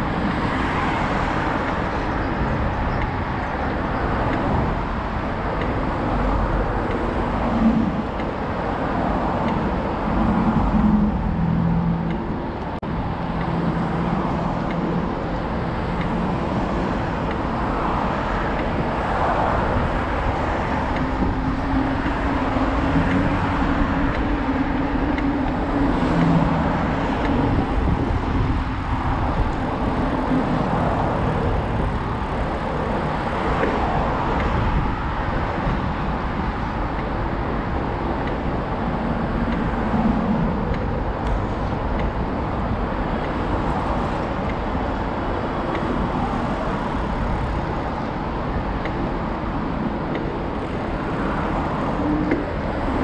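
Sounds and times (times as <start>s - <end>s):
cars passing close by: 0.0s - 53.0s
road traffic: 0.0s - 53.0s.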